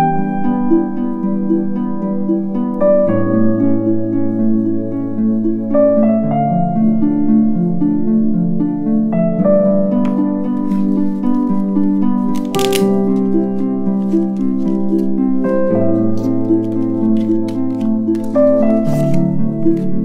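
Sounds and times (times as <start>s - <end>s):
soft harp-like instrumental music: 0.0s - 20.0s.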